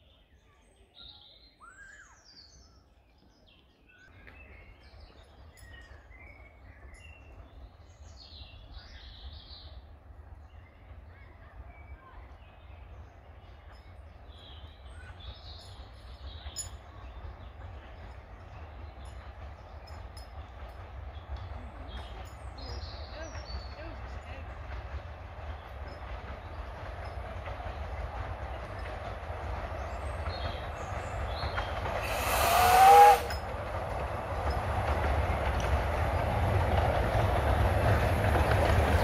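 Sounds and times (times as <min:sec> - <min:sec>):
steam train rumble: 0:04.1 - 0:39.0.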